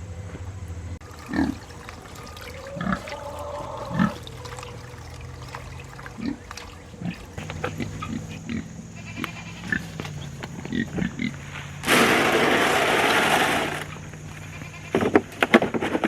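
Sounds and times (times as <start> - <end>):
low engine-like hum: 0.0 - 15.5
pigs grunting: 1.1 - 15.2.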